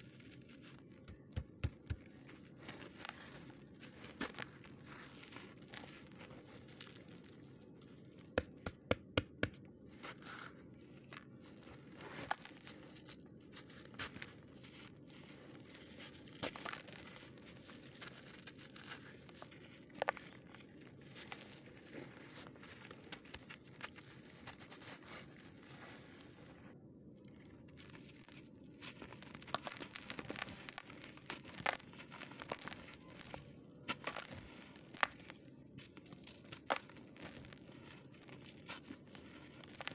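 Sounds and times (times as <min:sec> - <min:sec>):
hands crumbling dry clay: 0:00.0 - 0:26.6, 0:27.2 - 0:39.9.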